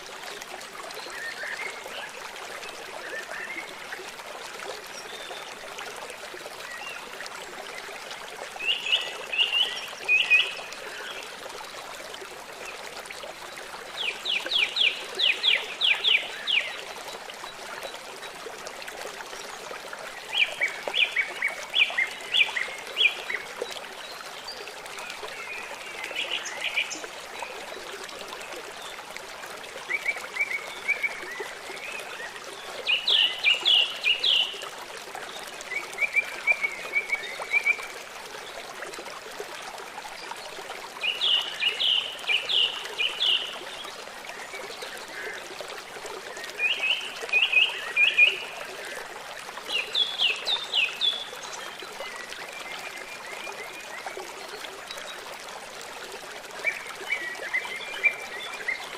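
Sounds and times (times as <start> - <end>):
stream running: 0.0 - 58.9.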